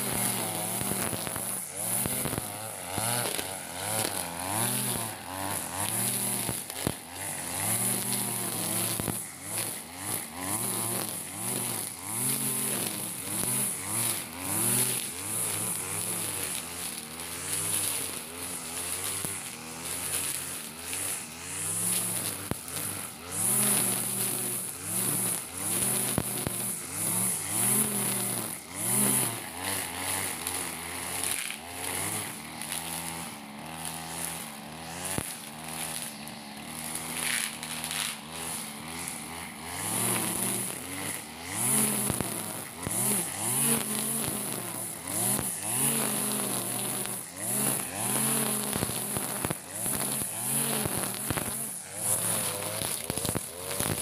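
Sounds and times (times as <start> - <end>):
brush cutter engine cutting grass: 0.0 - 54.0.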